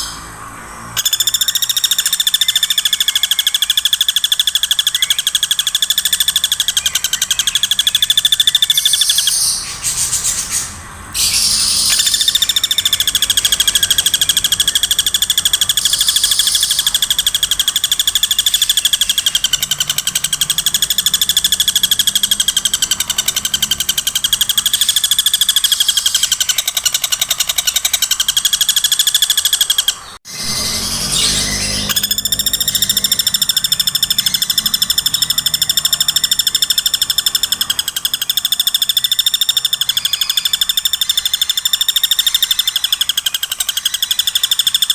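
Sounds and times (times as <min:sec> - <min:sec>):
woodpecker rattling call: 0:00.9 - 0:44.9.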